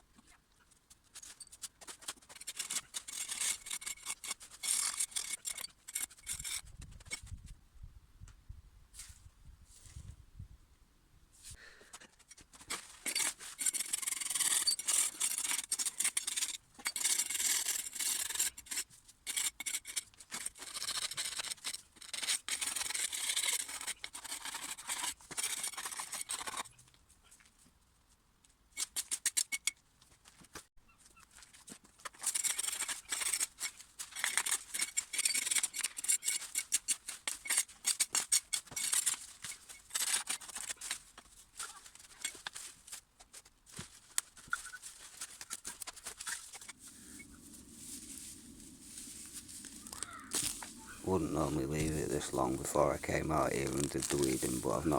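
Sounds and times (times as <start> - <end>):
scraping and rustling weeding strokes: 1.0 - 6.6, 12.2 - 26.7, 28.8 - 54.9.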